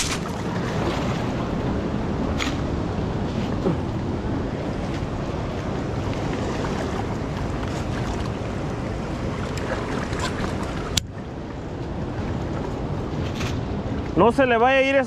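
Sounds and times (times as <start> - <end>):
river water flowing: 0.0 - 15.0
wind on microphone: 0.0 - 15.0.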